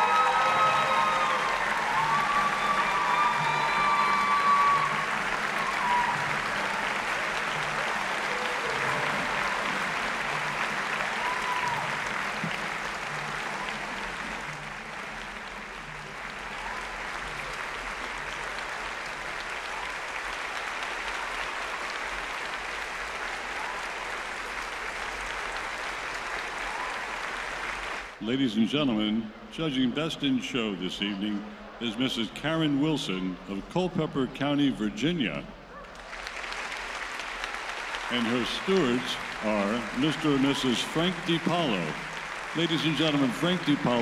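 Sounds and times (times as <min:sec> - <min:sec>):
audience applause: 0:00.0 - 0:28.2, 0:35.9 - 0:44.0.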